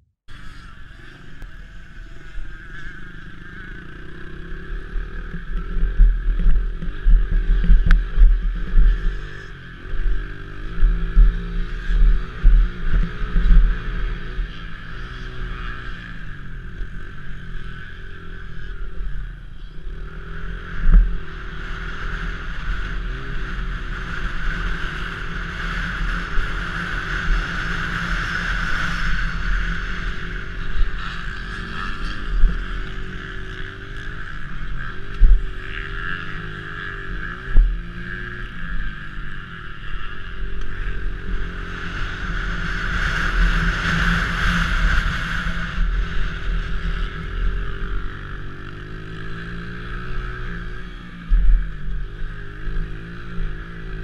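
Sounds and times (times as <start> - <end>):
motorbike engine revving: 0.3 - 54.0.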